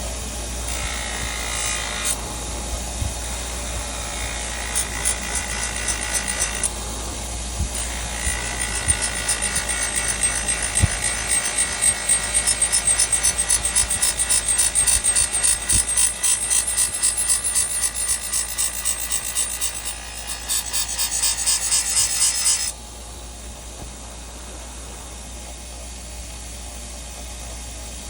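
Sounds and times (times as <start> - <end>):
power tool grinding knife blade: 0.0 - 22.8.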